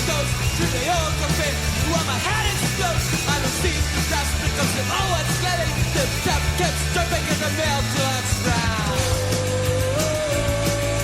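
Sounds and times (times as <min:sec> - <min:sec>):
person singing: 0:00.0 - 0:11.0
punk rock song: 0:00.0 - 0:11.0.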